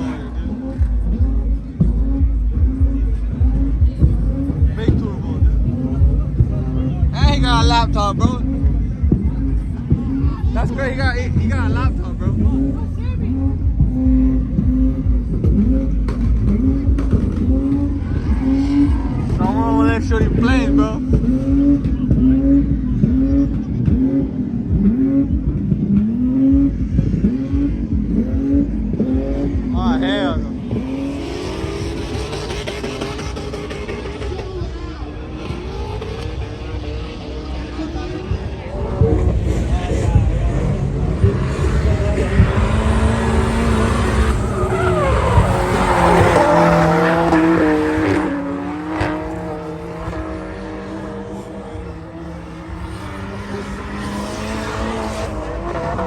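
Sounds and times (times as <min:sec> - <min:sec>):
car engine revving: 0:00.0 - 0:56.0
exhaust crackles: 0:00.0 - 0:56.0.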